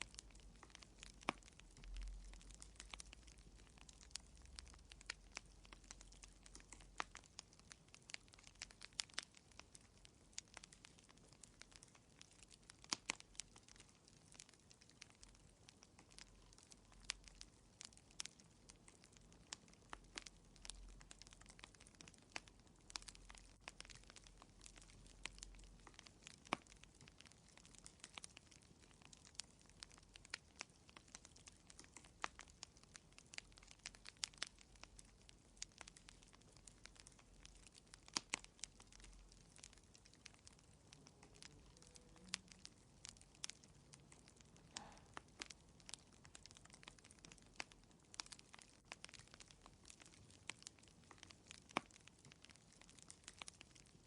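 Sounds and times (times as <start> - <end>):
faint fire hiss: 0.0 - 54.0
fire crackling and popping: 0.0 - 54.0.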